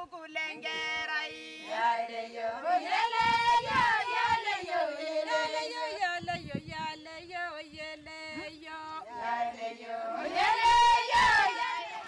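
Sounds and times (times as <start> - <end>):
women singing together unaccompanied: 0.0 - 12.0.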